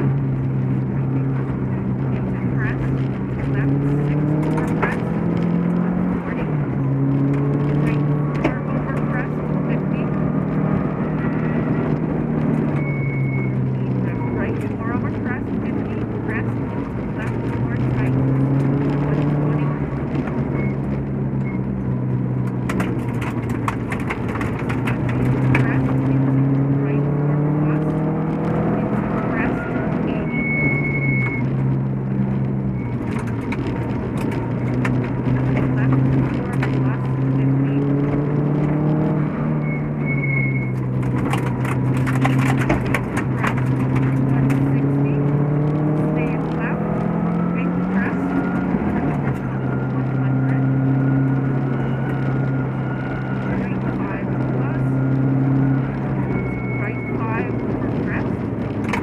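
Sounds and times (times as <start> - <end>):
car engine at steady revs: 0.0 - 59.0
road and tyre noise: 0.0 - 59.0.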